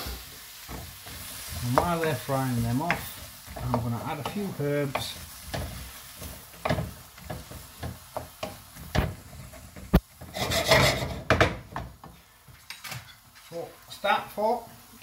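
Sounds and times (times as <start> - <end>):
wooden spoon scraping frying pan: 0.0 - 13.6.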